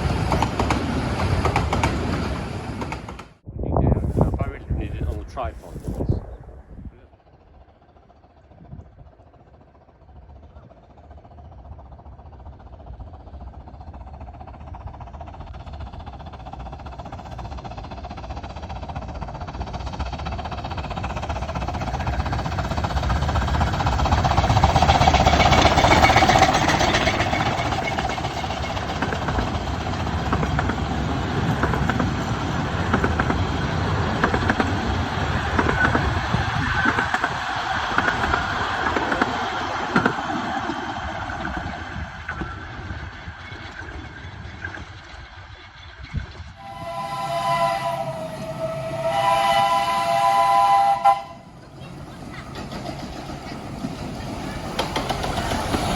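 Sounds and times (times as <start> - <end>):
miniature train passing: 0.0 - 3.4, 7.0 - 55.9.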